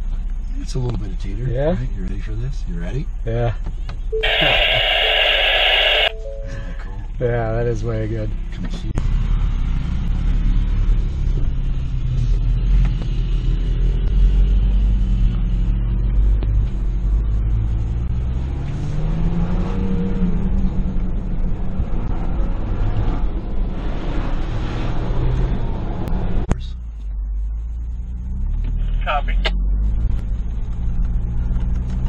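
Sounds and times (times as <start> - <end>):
car engine driving: 0.0 - 32.0.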